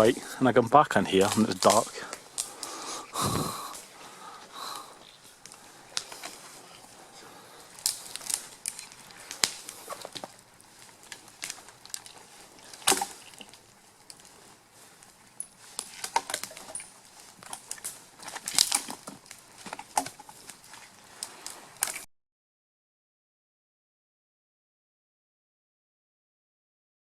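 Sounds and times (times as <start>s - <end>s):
campfire crackling and popping: 0.0s - 22.1s.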